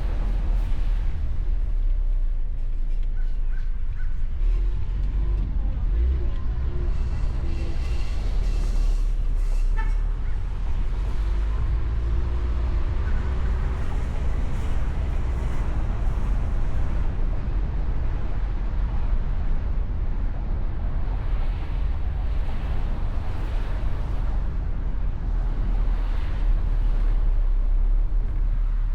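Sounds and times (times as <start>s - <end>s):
passing street traffic: 0.0s - 28.9s
road noise: 0.0s - 28.9s
wind noise: 0.0s - 28.9s.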